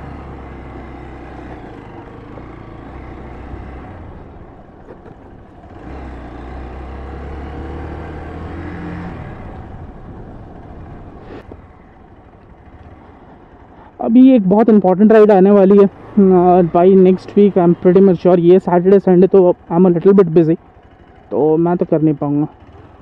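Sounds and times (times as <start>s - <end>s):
motorcycle engine running: 0.0s - 23.0s
road and wind noise: 0.0s - 23.0s.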